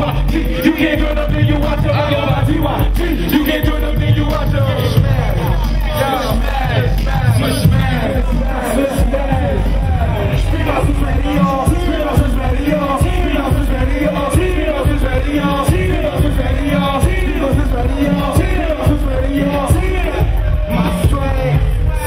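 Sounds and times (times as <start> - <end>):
heavy bass beat: 0.0 - 22.0
rapping into a microphone: 0.0 - 22.0.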